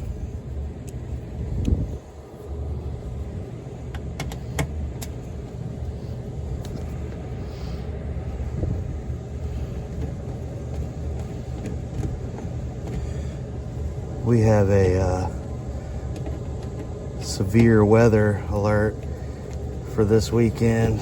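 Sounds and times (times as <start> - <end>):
gas furnace humming: 0.0 - 21.0.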